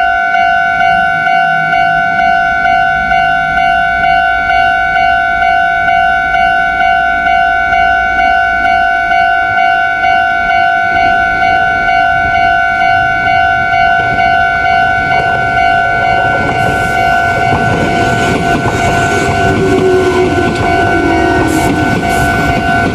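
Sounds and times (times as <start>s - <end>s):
level crossing bell ringing: 0.0s - 18.6s
train rumble and rail clatter: 0.0s - 22.9s.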